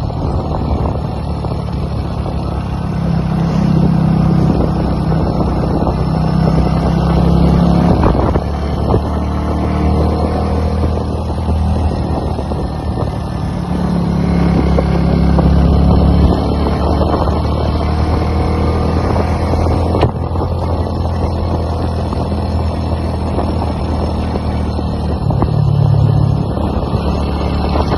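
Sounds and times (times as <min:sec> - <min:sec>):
motorcycle engine droning: 0:00.0 - 0:27.9.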